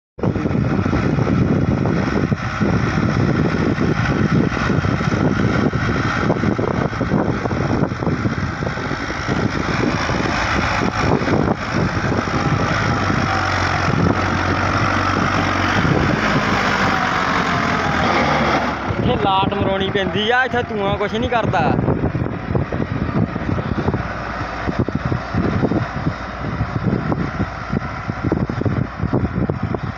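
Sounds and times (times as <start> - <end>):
tractor engine under load: 0.2 - 29.9.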